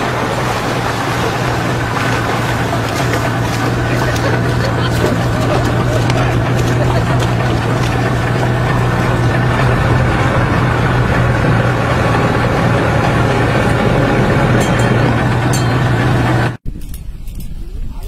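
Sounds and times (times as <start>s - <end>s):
boat engine running: 0.0s - 16.6s
rushing noise: 0.0s - 16.6s.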